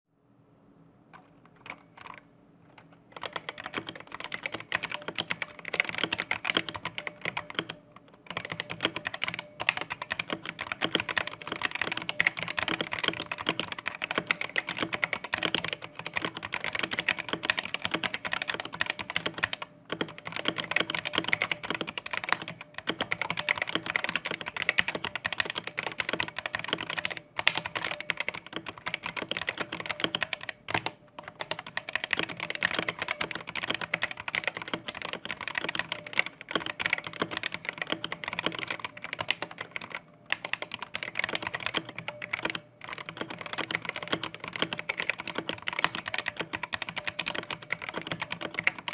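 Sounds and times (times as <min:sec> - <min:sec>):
fast typing on keyboard: 0:01.2 - 0:48.9.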